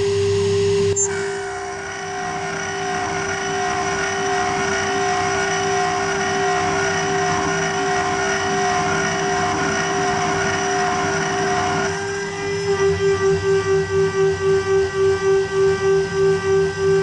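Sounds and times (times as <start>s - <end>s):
router spindle high whine: 0.0s - 17.0s
end mill cutting metal: 0.9s - 17.0s.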